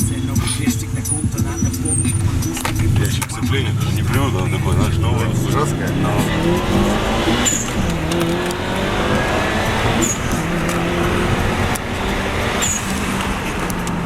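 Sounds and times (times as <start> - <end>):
car engine pulling through gears: 0.0 - 14.0
high chirp at gear change: 0.0 - 14.0.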